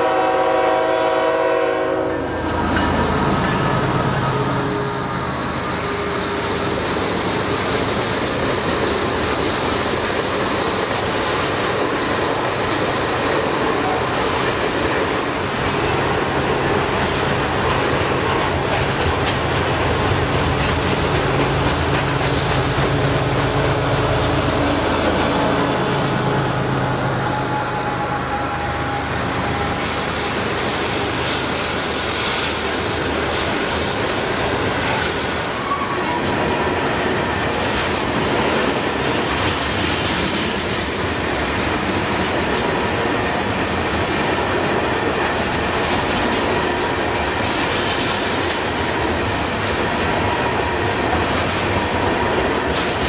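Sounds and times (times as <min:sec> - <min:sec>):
freight cars rolling on rails: 0:00.0 - 0:53.0
locomotive engine drone: 0:00.0 - 0:53.0.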